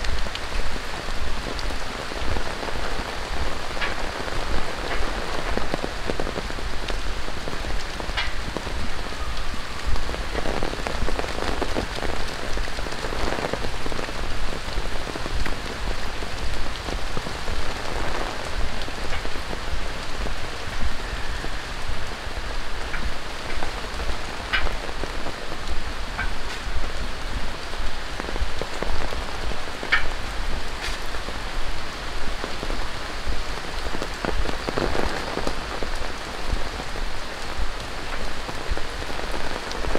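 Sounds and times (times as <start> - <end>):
rain falling on pavement: 0.0 - 39.9.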